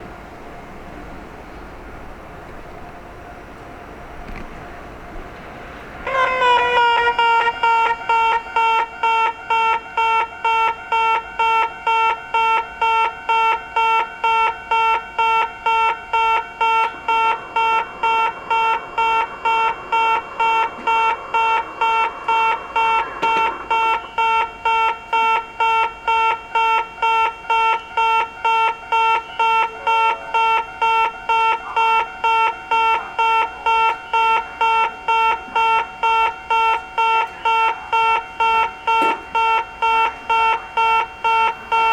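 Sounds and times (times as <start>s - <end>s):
level-crossing alarm bell ringing: 6.0s - 41.9s.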